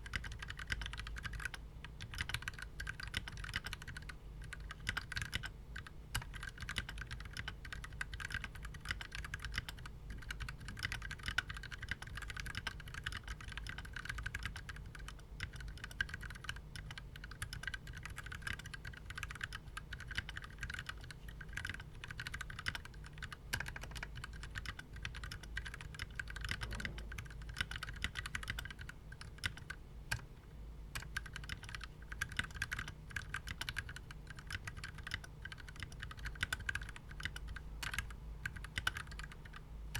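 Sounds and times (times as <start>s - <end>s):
mechanical keyboard typing: 0.0s - 30.3s, 31.0s - 39.6s.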